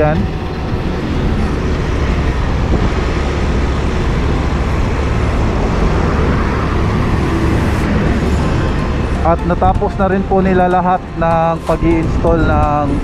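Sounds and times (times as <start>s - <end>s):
moving vehicle rumble: 0.0s - 13.0s
wind noise: 0.0s - 13.0s.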